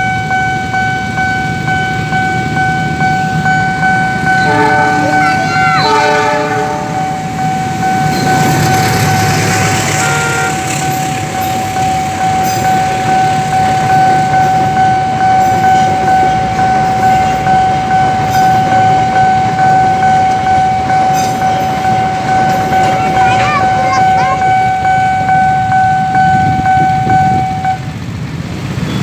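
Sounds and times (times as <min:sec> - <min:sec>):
railroad crossing alarm: 0:00.0 - 0:29.0
train rumbling past: 0:00.0 - 0:29.0.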